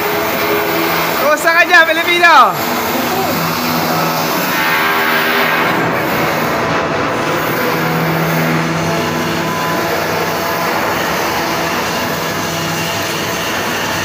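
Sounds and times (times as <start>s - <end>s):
loud machinery drone: 0.0s - 14.0s.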